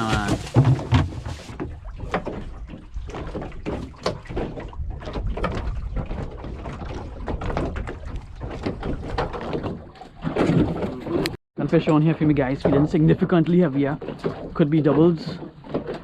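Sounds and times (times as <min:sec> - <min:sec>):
knocks and clatter on boat: 0:00.0 - 0:16.0.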